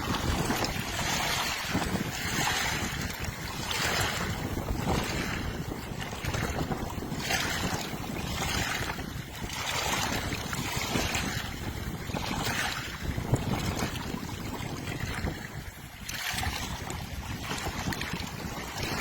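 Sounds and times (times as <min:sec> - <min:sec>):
waves washing onto shore: 0:00.0 - 0:19.0
wind buffeting microphone: 0:00.0 - 0:19.0.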